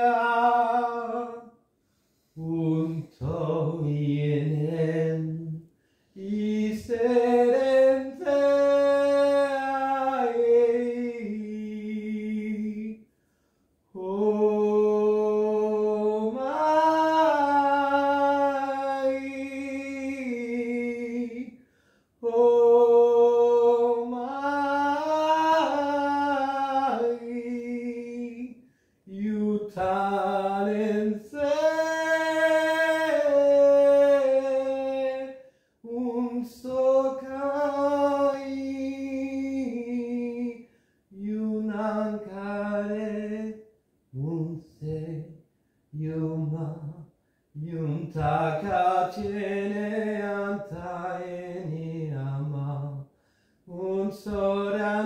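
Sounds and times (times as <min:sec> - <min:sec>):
man singing unaccompanied: 0:00.0 - 0:01.6, 0:02.4 - 0:13.1, 0:13.9 - 0:21.6, 0:22.2 - 0:55.0.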